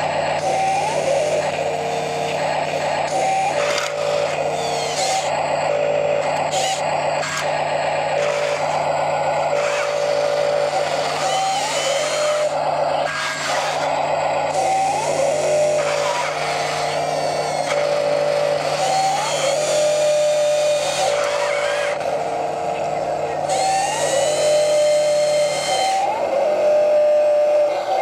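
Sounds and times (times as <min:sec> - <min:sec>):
rising motor whines: 0:00.0 - 0:28.0
simulated truck engine running: 0:00.0 - 0:28.0.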